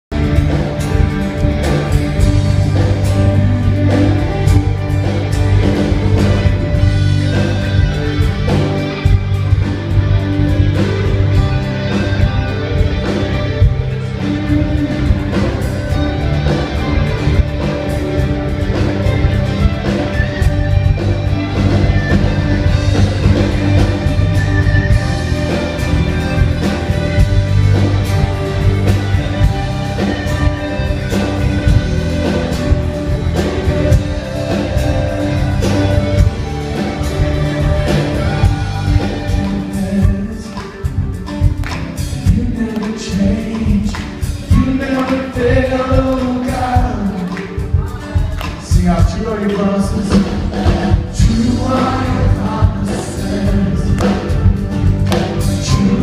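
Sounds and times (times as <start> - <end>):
steady bass line: 0.0 - 56.0
electric and acoustic guitars: 0.1 - 56.0
worship band playing: 0.1 - 56.0.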